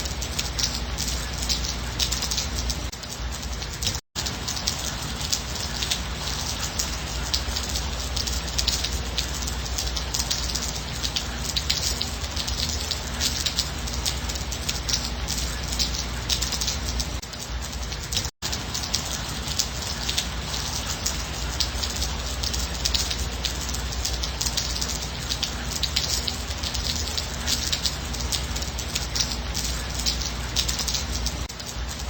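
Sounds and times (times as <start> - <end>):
gentle rain patter: 0.0 - 32.0.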